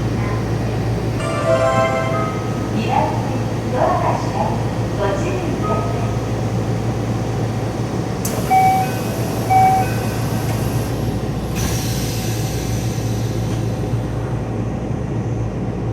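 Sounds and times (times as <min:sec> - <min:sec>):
train hum: 0:00.0 - 0:15.9.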